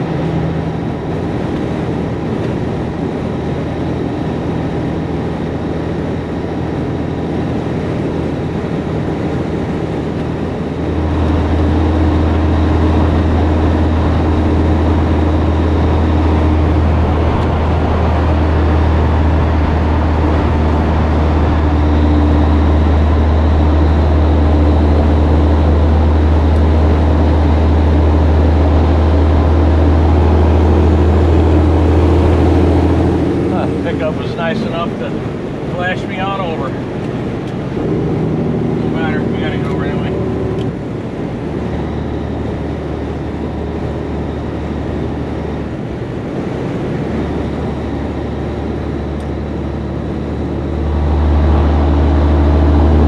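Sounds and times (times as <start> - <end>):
road noise: 0.0 - 53.0
truck diesel engine droning: 0.0 - 53.0.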